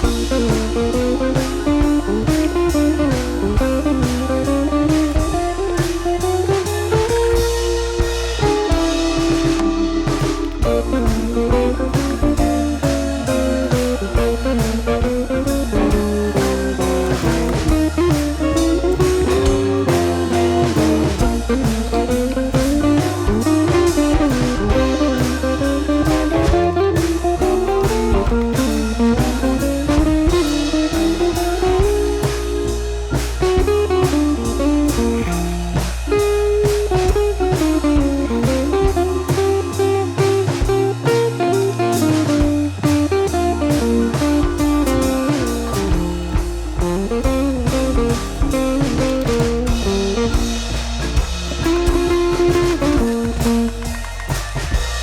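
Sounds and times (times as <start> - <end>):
blues guitar melody: 0.0 - 55.0
drum kit beat: 0.0 - 55.0.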